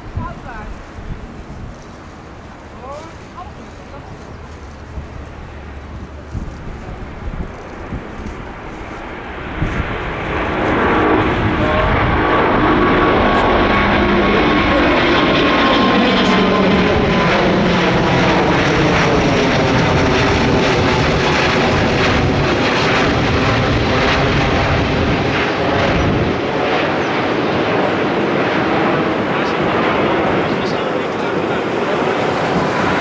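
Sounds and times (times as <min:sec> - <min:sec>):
jet engines at takeoff thrust: 0:00.0 - 0:33.0.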